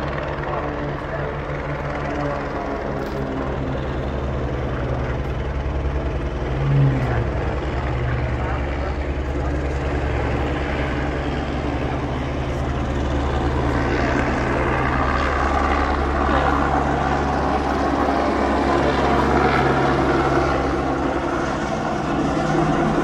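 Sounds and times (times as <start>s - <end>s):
aircraft engine drone: 0.0s - 23.0s.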